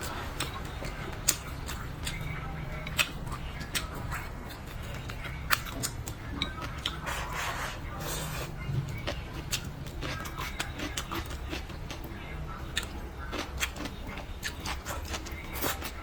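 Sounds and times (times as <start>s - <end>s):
wet chewing and lip smacks: 0.0s - 7.1s, 8.9s - 16.0s.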